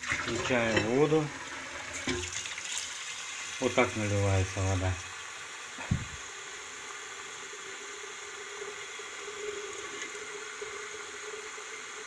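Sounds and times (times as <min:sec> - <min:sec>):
tap water running into kettle: 0:00.0 - 0:12.0.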